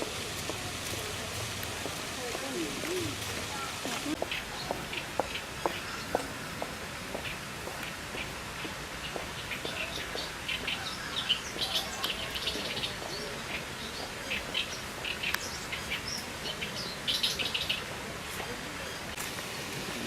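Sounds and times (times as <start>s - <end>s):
reed warbler singing: 0.0s - 19.7s.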